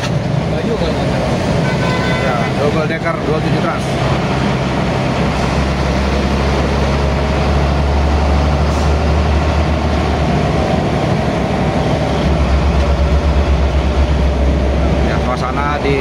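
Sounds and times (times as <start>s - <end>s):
bus diesel engine growling: 0.0s - 16.0s.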